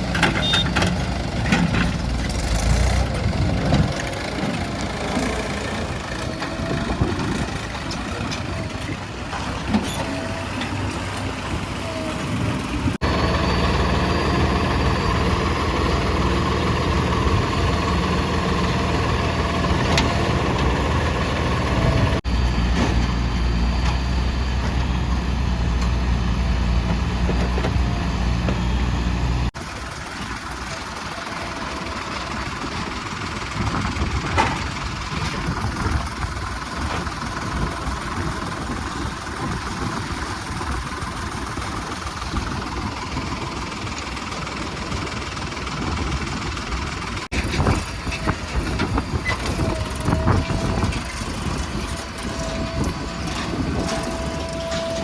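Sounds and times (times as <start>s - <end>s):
diesel engines running steadily: 0.0s - 55.0s.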